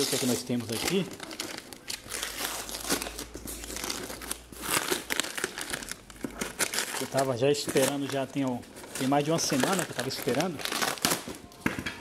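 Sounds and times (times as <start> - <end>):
paper crinkling and ripping: 0.0 - 11.5.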